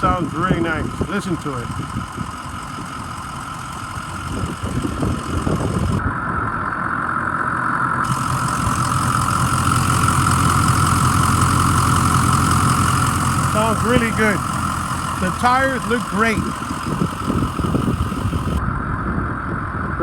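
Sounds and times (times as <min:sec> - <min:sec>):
constant engine whine: 0:00.0 - 0:20.0
diesel engine idling: 0:00.0 - 0:20.0.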